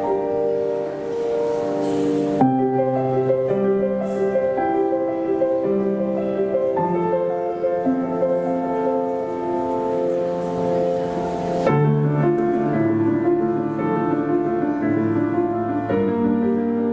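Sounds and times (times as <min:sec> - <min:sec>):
slow piano music: 0:00.0 - 0:16.9.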